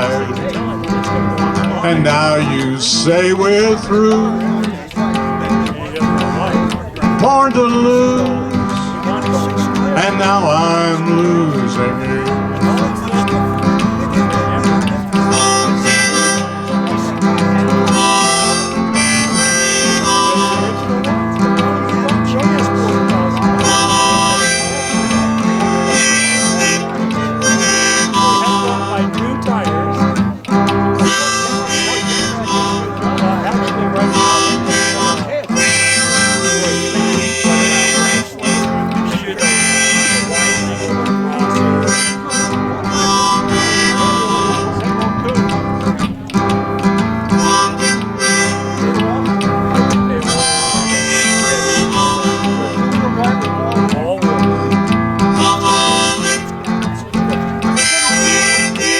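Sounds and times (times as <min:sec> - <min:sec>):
harmonica melody: 0:00.0 - 0:58.9
strummed acoustic guitar: 0:00.0 - 0:58.9.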